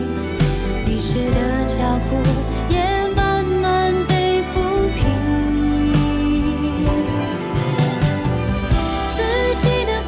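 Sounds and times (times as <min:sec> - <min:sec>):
person singing a melody: 0:00.0 - 0:07.6, 0:09.0 - 0:10.0
instrumental accompaniment with slow beat: 0:00.0 - 0:10.0.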